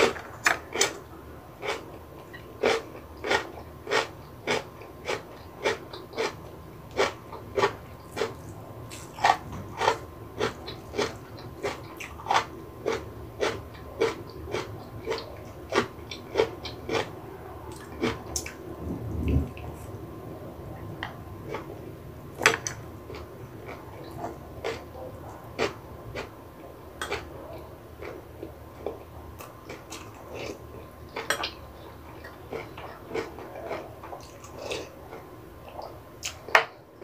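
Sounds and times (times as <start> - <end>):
chewing crunchy food: 0.0 - 20.0, 20.9 - 36.8.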